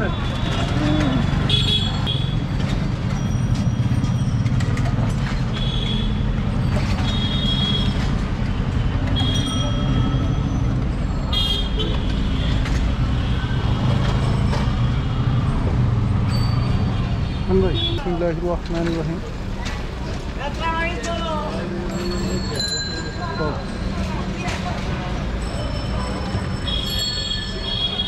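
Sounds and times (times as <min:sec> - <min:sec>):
engines of passing traffic: 0:00.0 - 0:28.0.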